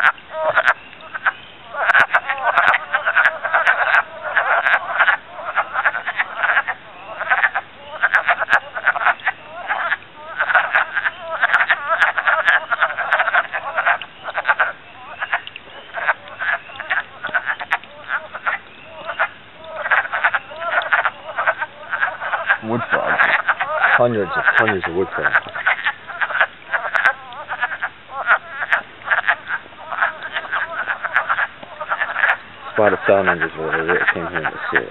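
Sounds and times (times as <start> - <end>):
wood frogs clucking chorus: 0.0 - 34.9.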